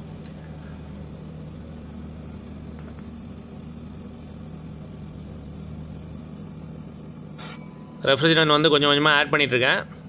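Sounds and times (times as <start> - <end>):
air conditioner compressor humming: 0.0 - 10.0.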